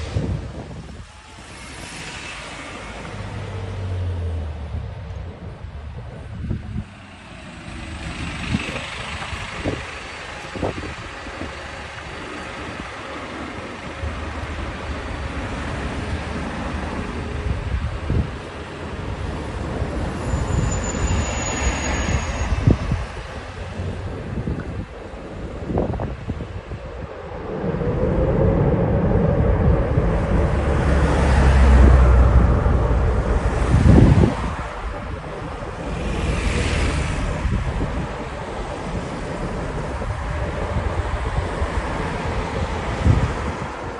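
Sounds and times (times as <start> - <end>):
jet engines rushing: 0.0 - 43.9
wind buffeting microphone: 0.0 - 43.9.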